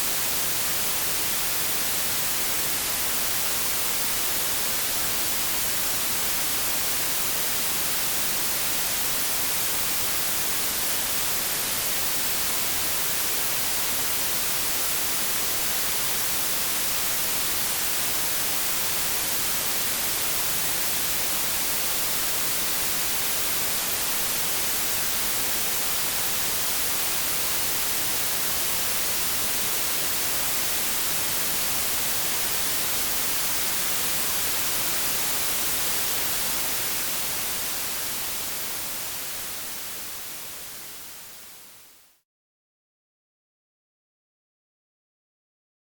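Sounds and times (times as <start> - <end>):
white noise hiss: 0.0 - 42.2.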